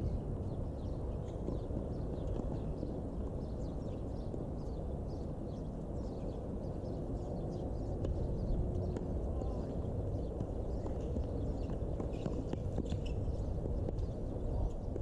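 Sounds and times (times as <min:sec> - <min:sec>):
steady low rumble: 0:00.0 - 0:04.8, 0:07.0 - 0:15.0.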